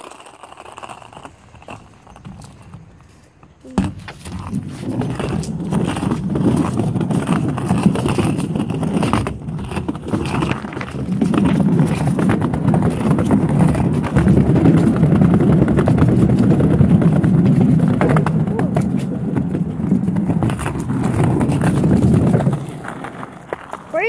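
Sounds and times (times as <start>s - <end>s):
skateboard wheels rumbling: 0.0s - 24.0s
wheels clicking over joints: 0.0s - 24.0s.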